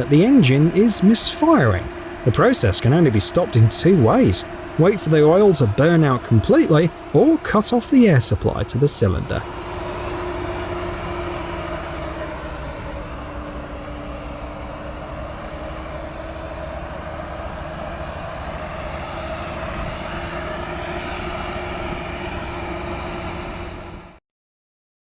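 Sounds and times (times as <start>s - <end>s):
diesel engine running at high revs: 0.0s - 24.2s.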